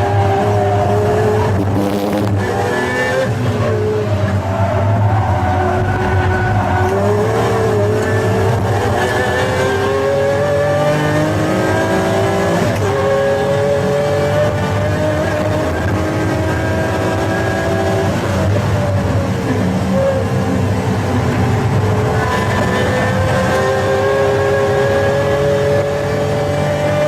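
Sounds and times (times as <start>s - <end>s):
sports car engine pulling hard: 0.0s - 27.0s.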